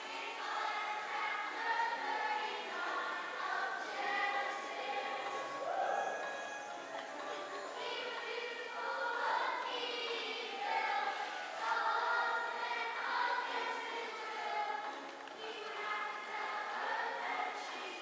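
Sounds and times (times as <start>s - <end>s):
children's chorus singing: 0.0s - 18.0s.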